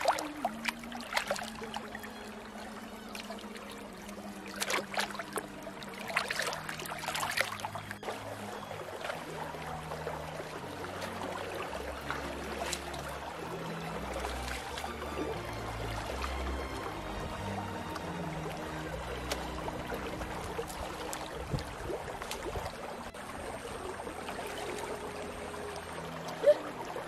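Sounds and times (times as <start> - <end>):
hand splashing in stream: 0.0 - 27.0
stream water rushing: 0.0 - 27.0.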